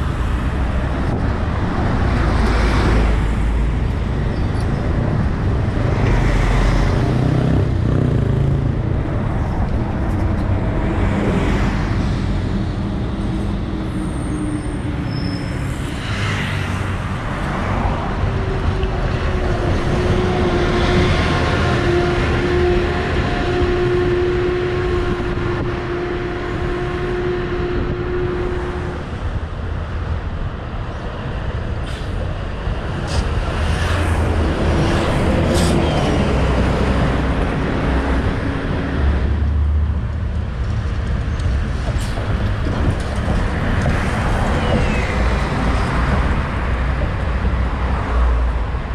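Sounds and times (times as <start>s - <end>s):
diesel buses passing: 0.0s - 48.9s
road traffic: 0.0s - 48.9s.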